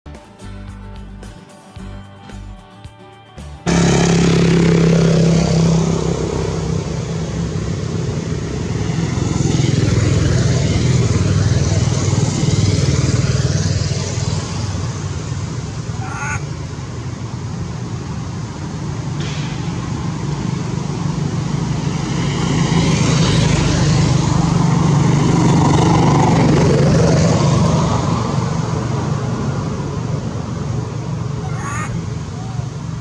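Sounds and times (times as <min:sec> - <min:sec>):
vehicle engine droning: 0:03.5 - 0:33.0.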